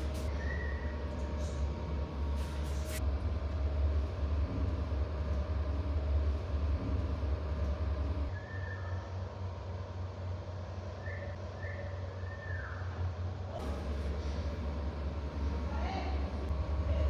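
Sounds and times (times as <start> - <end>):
low rumbling hum: 0.0 - 17.0.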